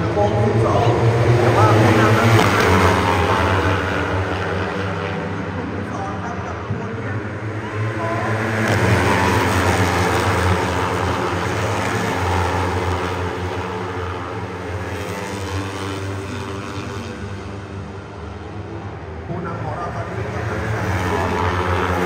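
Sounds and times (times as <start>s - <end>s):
motorcycles passing at speed: 0.0s - 22.0s.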